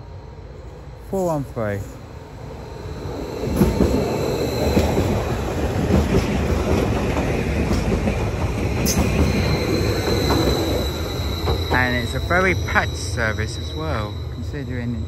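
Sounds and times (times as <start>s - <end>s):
train wheels rumbling: 0.6s - 15.0s.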